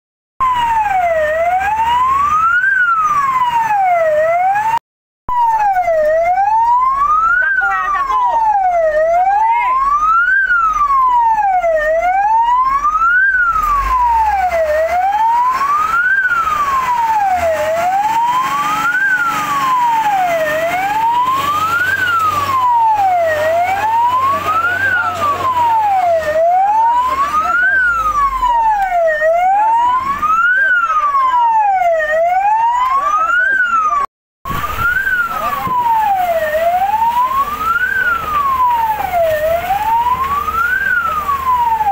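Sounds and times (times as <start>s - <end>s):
electronic siren wailing: 0.4s - 41.9s.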